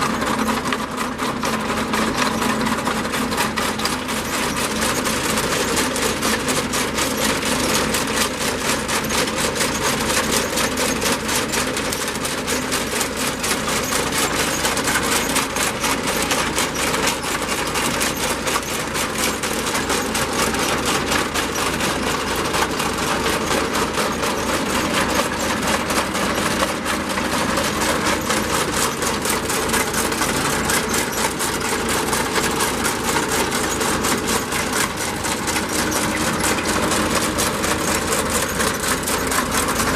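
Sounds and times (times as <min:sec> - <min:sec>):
engine running with clatter: 0:00.0 - 0:39.9.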